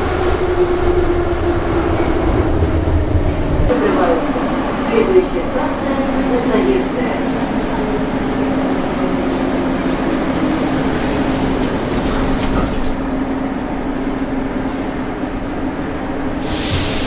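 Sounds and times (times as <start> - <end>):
metro train rumbling: 0.0 - 17.0.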